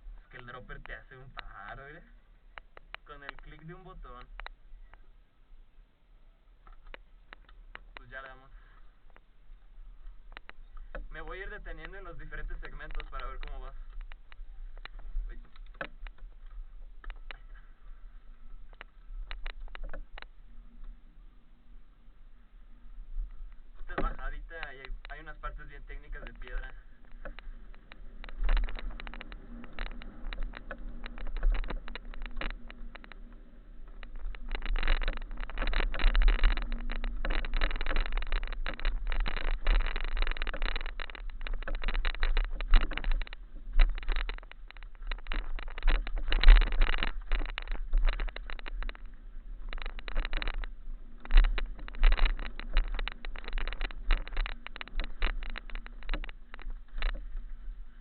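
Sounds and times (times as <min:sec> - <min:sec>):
bike rattling over stones: 0:00.0 - 0:05.0, 0:06.7 - 0:58.0.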